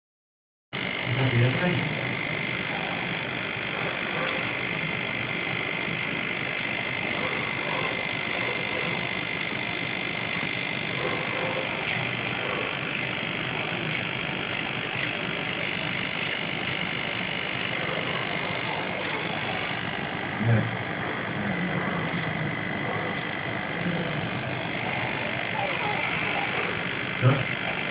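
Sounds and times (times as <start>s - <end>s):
machine hum with high whine: 0.8s - 27.9s.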